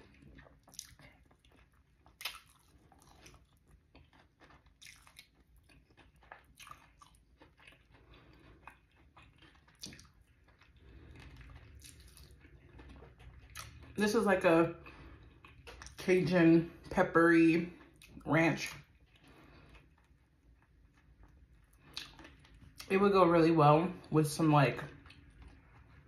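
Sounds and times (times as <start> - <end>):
chewing crispy chicken wings: 0.0 - 24.1, 24.7 - 26.0.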